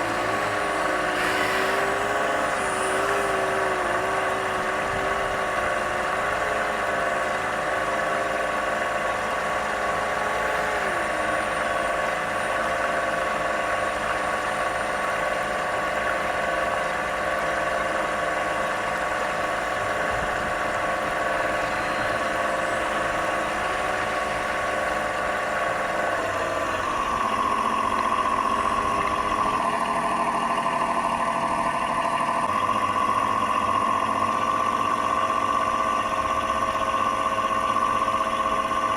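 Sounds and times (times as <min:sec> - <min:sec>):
simulated boat engine sound: 0:00.0 - 0:38.9.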